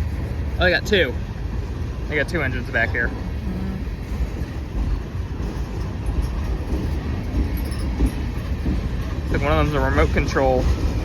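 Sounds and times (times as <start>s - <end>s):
diesel locomotives rumbling: 0.0s - 11.0s.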